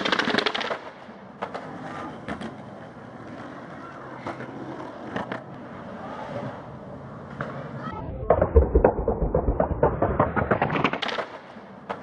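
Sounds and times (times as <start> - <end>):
skateboard clacks: 0.0 - 12.0
skateboard rolling on concrete: 0.0 - 12.0.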